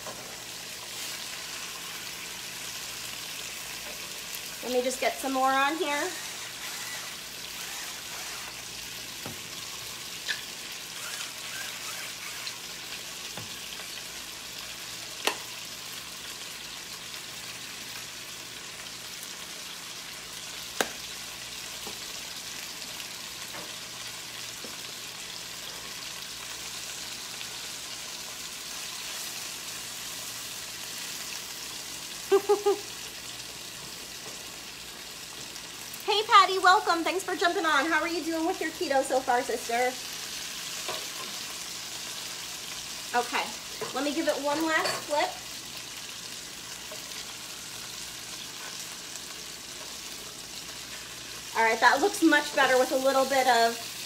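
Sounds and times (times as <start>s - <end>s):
chicken sizzling in a skillet: 0.0s - 54.0s.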